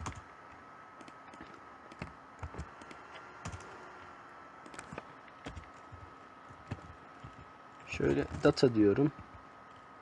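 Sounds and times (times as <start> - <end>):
faint high-pitched whine: 0.0 - 10.0.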